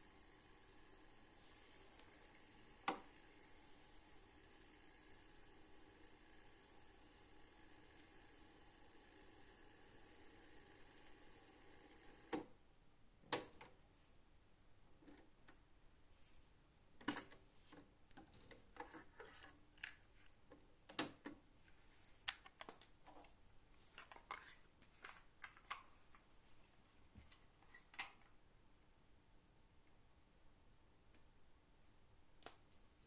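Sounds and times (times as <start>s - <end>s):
faint background hiss: 0.0s - 33.0s.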